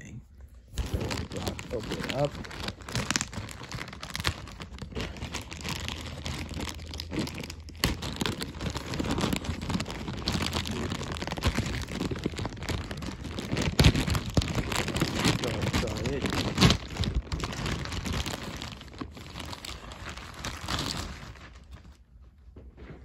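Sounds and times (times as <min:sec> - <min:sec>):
packaging crinkling and tearing: 0:00.7 - 0:22.0.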